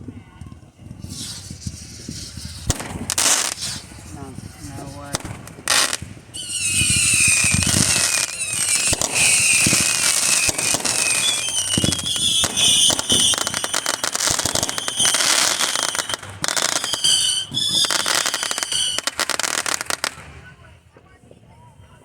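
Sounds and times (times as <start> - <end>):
fireworks crackling and banging: 0.0 - 22.0
whistling firework shells: 0.8 - 20.3.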